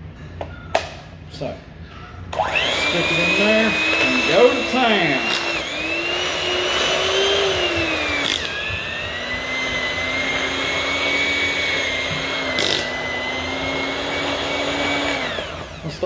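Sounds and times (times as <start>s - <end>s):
electric hand mixer whining: 2.4s - 16.0s.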